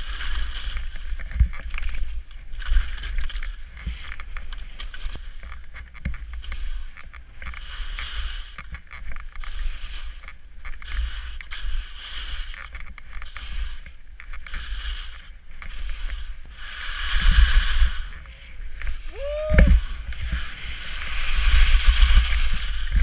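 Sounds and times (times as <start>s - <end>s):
skis carving through snow: 0.0s - 23.0s
wind rumble on microphone: 0.0s - 23.0s.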